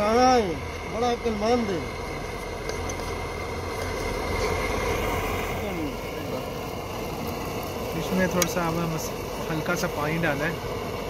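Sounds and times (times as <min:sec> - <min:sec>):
gas stove burner roaring: 0:00.0 - 0:11.0.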